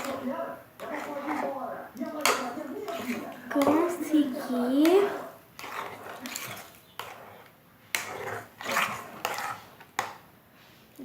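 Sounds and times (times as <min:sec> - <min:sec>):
spoon stirring sticky slime: 0:00.0 - 0:10.3.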